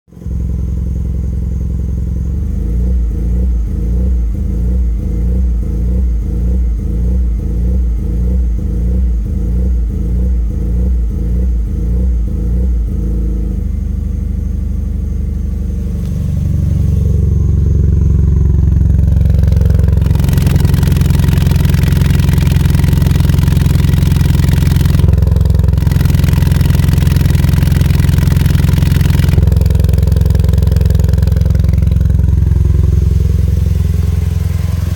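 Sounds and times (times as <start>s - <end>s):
car engine idling rough: 0.1s - 34.9s.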